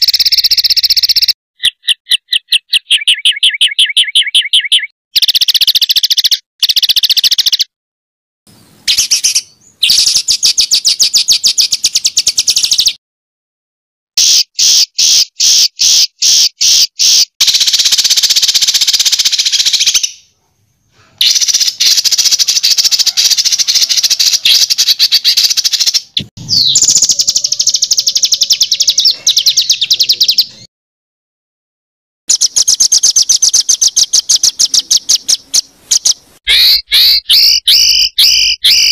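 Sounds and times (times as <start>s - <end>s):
songbird rattling song: 0.0s - 7.7s, 8.5s - 13.0s, 14.2s - 30.7s, 32.3s - 38.9s.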